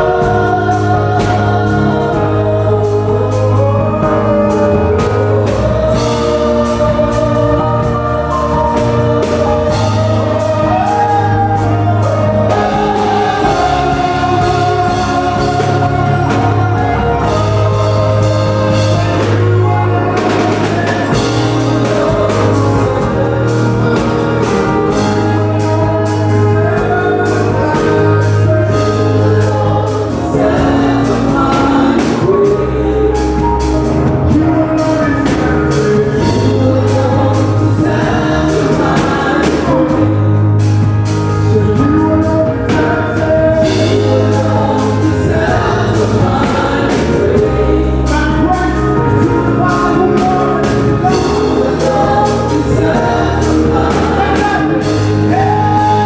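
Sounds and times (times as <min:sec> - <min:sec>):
bass: 0:00.0 - 0:56.0
choir singing: 0:00.0 - 0:56.0
steady drum beat: 0:00.0 - 0:56.0.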